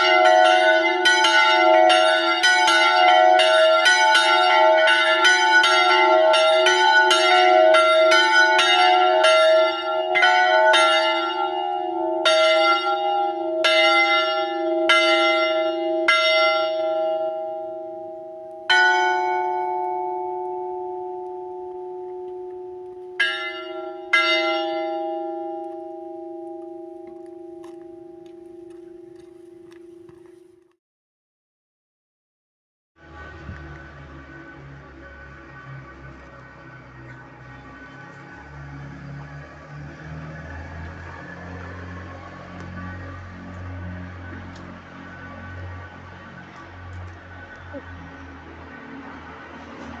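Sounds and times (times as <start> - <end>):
church bells ringing: 0.0 - 30.4, 33.0 - 50.0.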